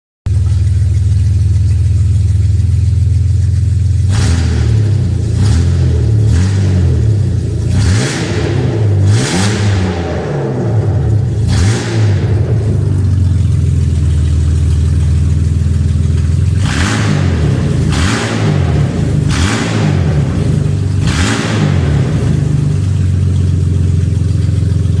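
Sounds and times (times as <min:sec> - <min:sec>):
car engine idling and revving: 0:00.3 - 0:25.0.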